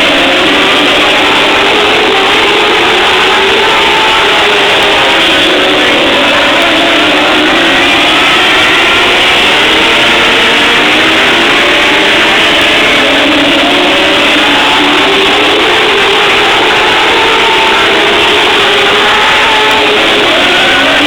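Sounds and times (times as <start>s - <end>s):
race car engines running: 0.0s - 21.0s.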